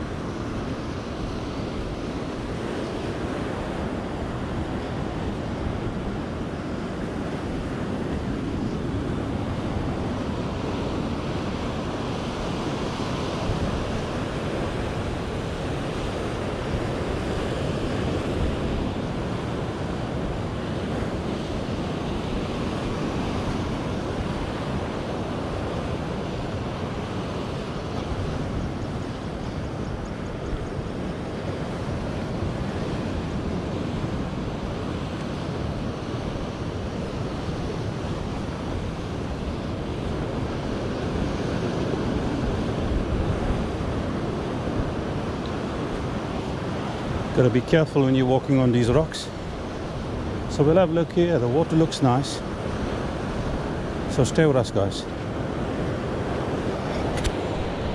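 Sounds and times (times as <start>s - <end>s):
wind noise on microphone: 0.0s - 47.8s, 55.1s - 57.9s.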